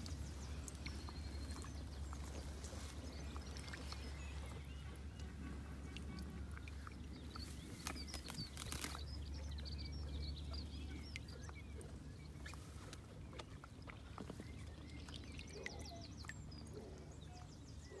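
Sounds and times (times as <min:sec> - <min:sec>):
low steady rumble: 0:00.0 - 0:18.0
small birds chirping: 0:00.0 - 0:18.0.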